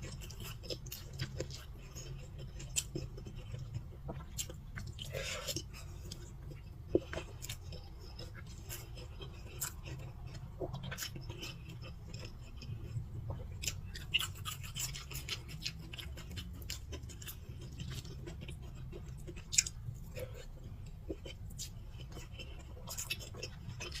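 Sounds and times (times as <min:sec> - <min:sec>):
person chewing and crunching food: 0:00.0 - 0:24.0.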